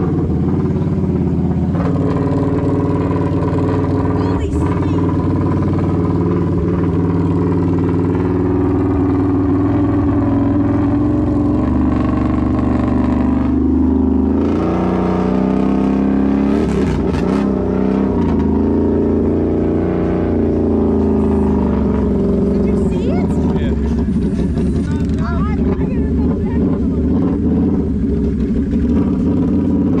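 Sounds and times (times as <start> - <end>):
atv engine revving: 0.0 - 30.0.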